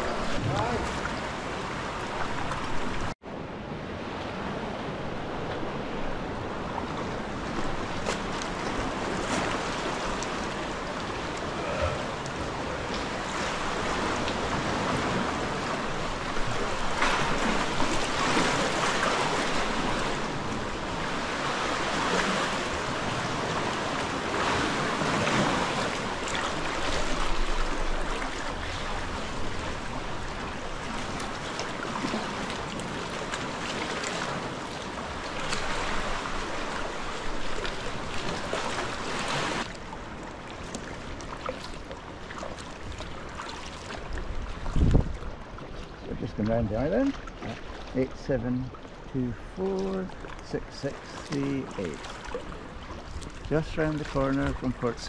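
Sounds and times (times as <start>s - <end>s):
water lapping around kayak: 0.0s - 55.0s.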